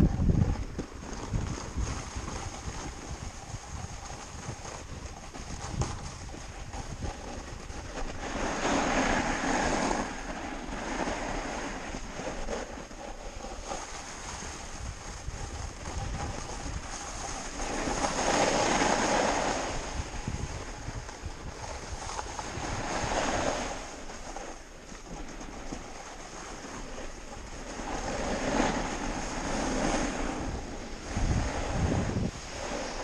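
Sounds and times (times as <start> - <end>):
snowboard scraping over snow: 0.0 - 33.0
wind on microphone: 0.0 - 33.0.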